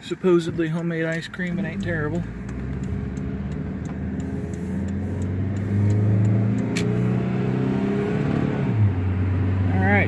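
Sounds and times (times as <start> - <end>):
car engine: 0.0 - 10.0
road noise: 0.0 - 10.0.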